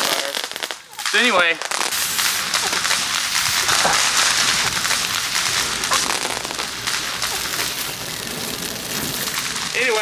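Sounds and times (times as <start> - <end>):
fireworks crackling: 0.0 - 10.0
fireworks hissing: 0.0 - 10.0.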